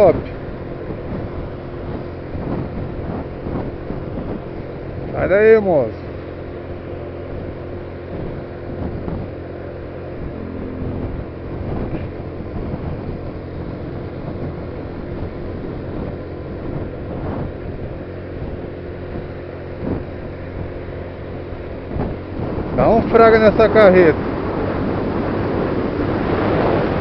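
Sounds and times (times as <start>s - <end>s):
car engine drone: 0.0s - 27.0s
road noise: 0.0s - 27.0s
wind noise on microphone: 0.0s - 27.0s.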